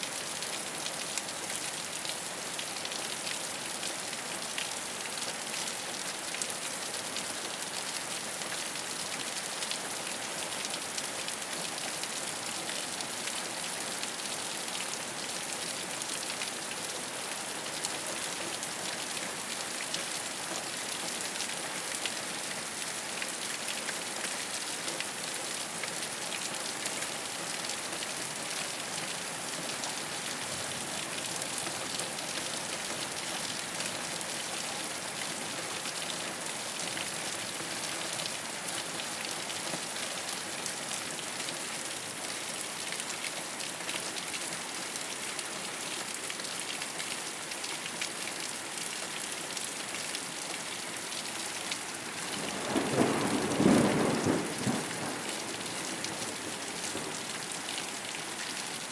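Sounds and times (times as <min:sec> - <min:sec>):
rain falling on a rooftop: 0:00.0 - 0:58.9.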